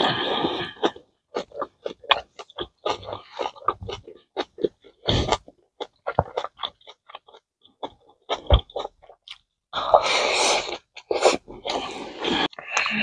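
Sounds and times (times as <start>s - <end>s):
man chewing rice: 0.0s - 13.0s.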